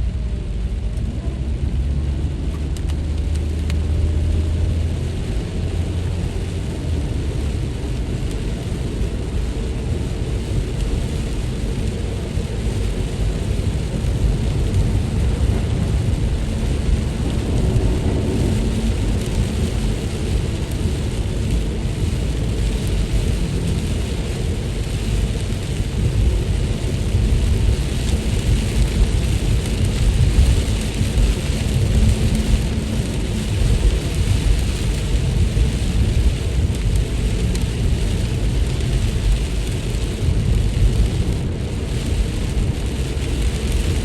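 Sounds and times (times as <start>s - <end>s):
low rumble: 0.0s - 44.0s
steady rain falling: 0.0s - 44.0s.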